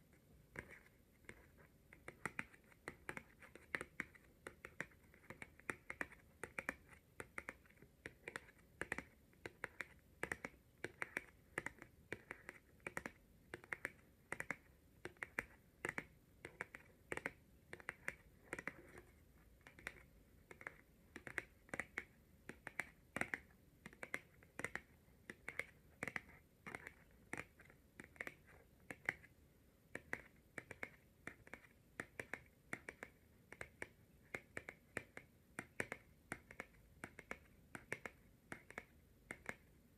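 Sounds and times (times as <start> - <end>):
fingernails tapping on cards: 0.5 - 39.8.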